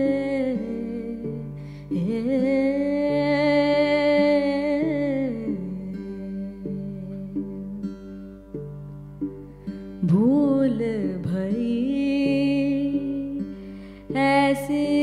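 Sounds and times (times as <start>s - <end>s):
woman singing without words: 0.0s - 8.3s, 10.0s - 15.0s
plucked string drone: 0.0s - 15.0s.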